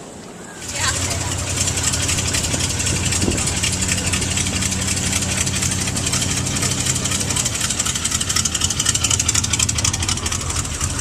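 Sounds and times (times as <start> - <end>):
car engine idling: 0.6 - 11.0.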